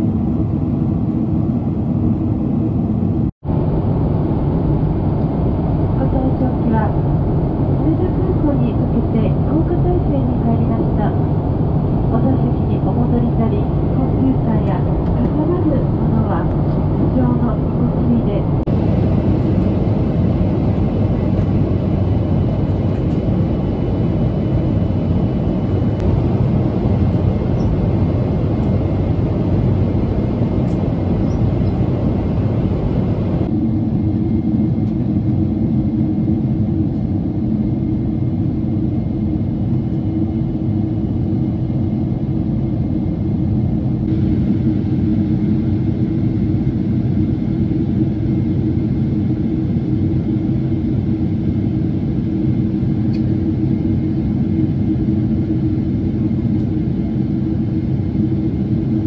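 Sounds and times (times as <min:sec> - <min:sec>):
airflow over fuselage: 0:00.0 - 0:59.0
jet engines rumbling: 0:00.0 - 0:59.0.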